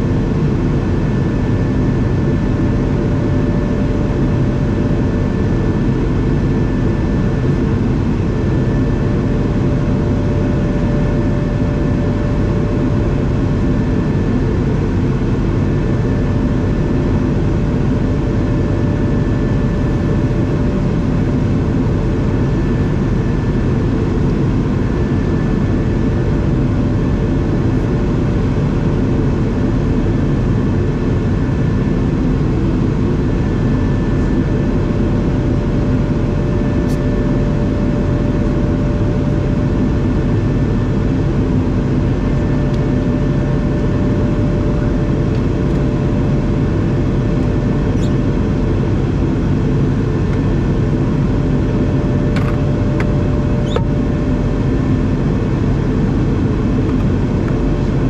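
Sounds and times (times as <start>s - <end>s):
jet engines humming: 0.0s - 58.0s.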